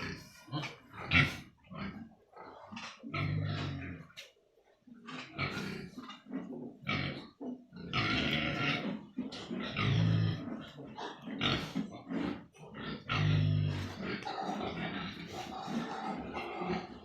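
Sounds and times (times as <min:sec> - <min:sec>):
pigs grunting and calling: 0:00.0 - 0:17.0.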